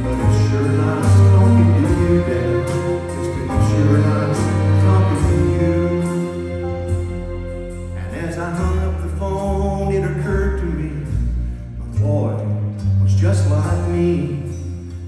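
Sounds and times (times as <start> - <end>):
bluegrass band with orchestra: 0.0 - 15.0
low bass notes: 0.0 - 15.0.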